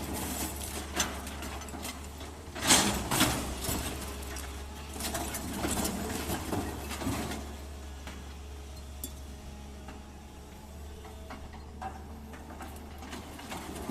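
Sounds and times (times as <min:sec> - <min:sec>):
excavator engine humming: 0:00.0 - 0:13.9.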